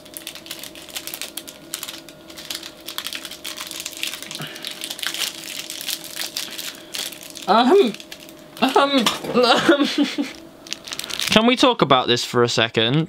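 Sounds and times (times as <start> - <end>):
packet crinkling: 0.0 - 11.6.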